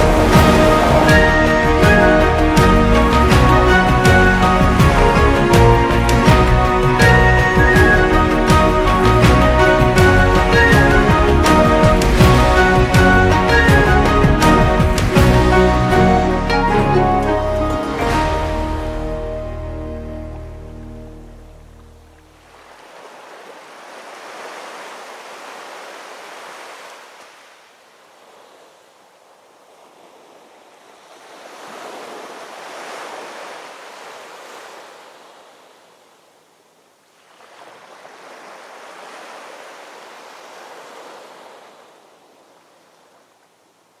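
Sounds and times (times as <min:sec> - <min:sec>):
small waves washing on shore: 0:00.0 - 0:16.3, 0:21.6 - 0:44.0.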